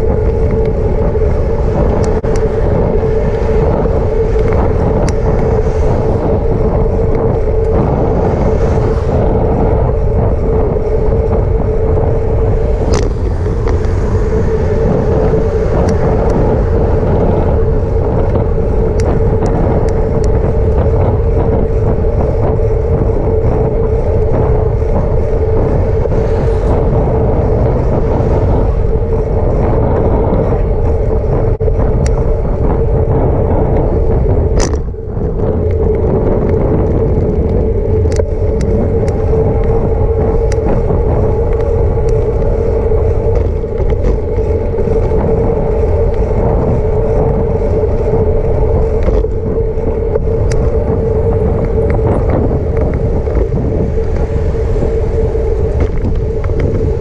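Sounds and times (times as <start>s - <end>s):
bicycle road noise: 0.0s - 57.0s
steady hum: 0.0s - 57.0s
wind noise: 0.0s - 57.0s.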